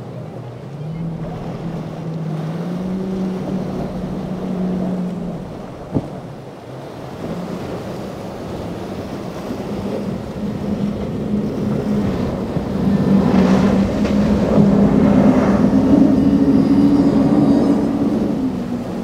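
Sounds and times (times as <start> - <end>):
outboard boat engines running hard: 0.0 - 19.0
wind: 0.0 - 19.0.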